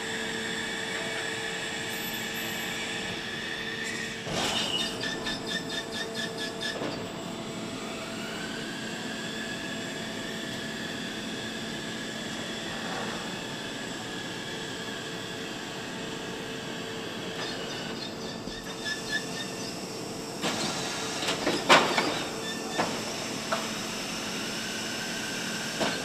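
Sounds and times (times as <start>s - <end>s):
machine whine: 0.0s - 26.0s.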